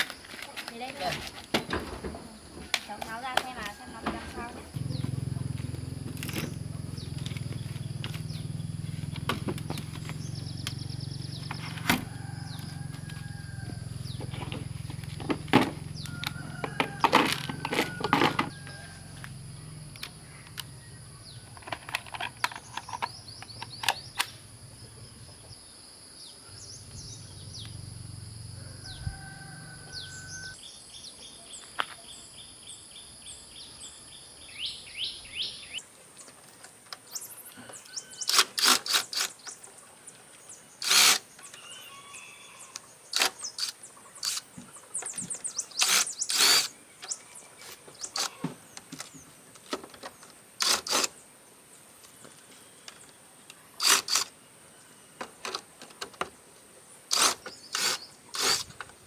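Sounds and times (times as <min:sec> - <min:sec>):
small birds chirping: 0:04.7 - 0:17.1, 0:17.9 - 0:59.0.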